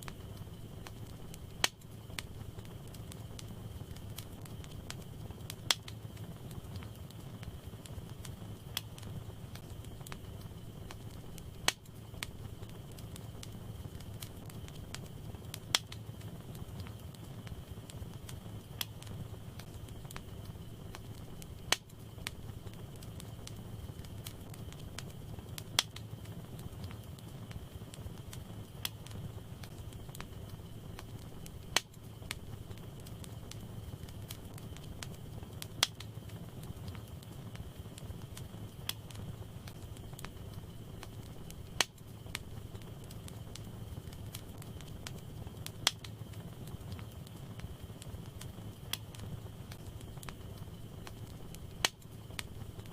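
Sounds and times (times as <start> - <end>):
fire flames rumbling and crackling: 0.0 - 52.9.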